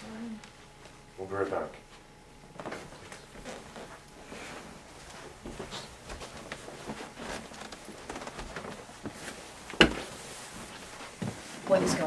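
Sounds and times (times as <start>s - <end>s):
footsteps: 1.8s - 12.0s.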